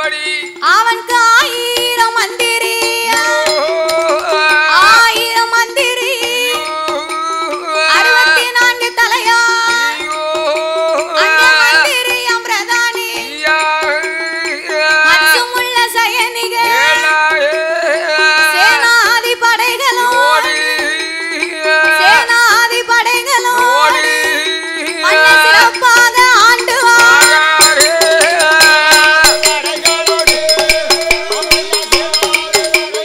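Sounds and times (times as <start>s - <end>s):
folk ensemble music: 0.0s - 33.0s
percussion strokes: 0.0s - 33.0s.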